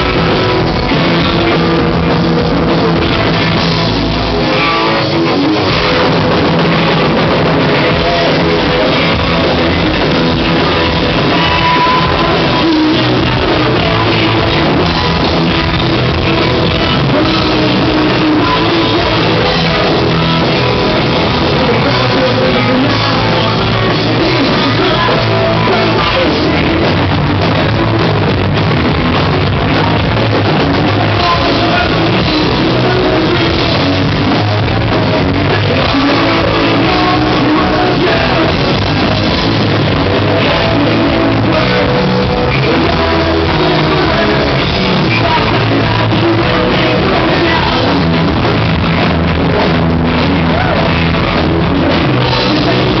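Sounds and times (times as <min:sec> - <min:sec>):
live rock music: 0:00.0 - 0:53.0.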